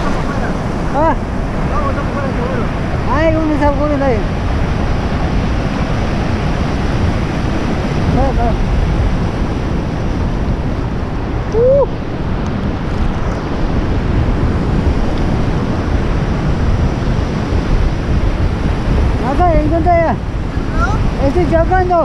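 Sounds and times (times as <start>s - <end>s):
surf washing and sloshing: 0.0s - 22.0s
wind buffeting microphone: 0.0s - 22.0s.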